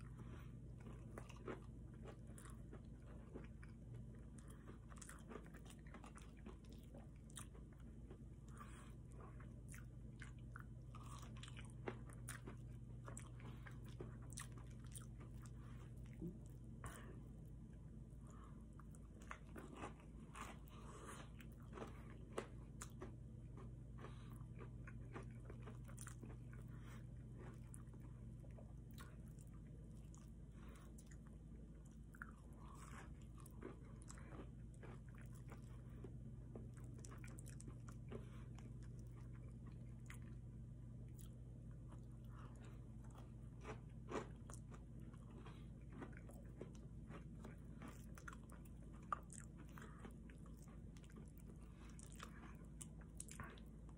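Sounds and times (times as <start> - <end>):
crunchy chewing: 0.0 - 40.5, 41.1 - 53.9
steady low hum: 0.0 - 53.9.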